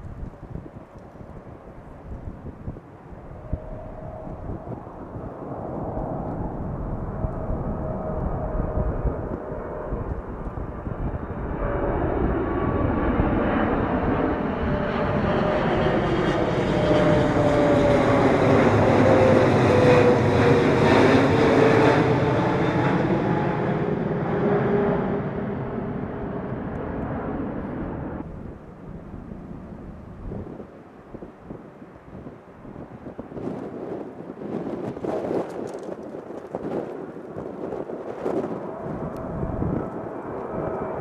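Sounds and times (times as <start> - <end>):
jet plane passing overhead: 0.0 - 41.0
jet engine whine sliding down: 0.8 - 41.0.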